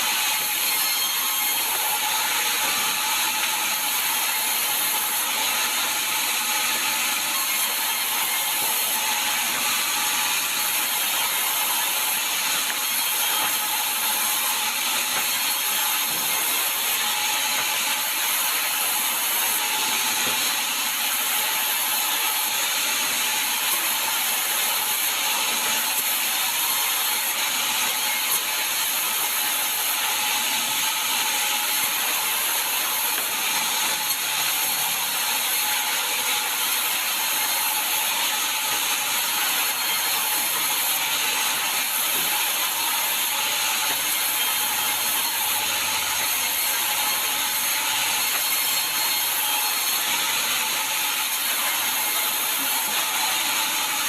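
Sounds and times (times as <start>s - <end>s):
sawmill saw cutting logs: 0.0s - 54.0s.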